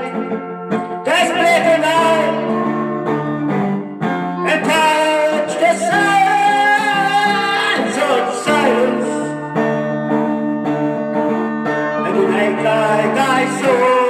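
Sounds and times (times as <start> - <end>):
guitar chords: 0.0 - 14.0
held wavering melody notes: 0.1 - 7.6, 8.6 - 14.0.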